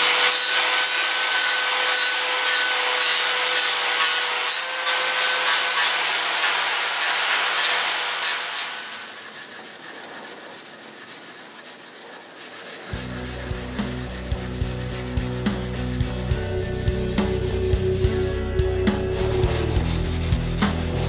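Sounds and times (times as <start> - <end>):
angle grinder scrubbing paint: 0.0 - 21.0
hand sanding with sandpaper: 0.0 - 21.0.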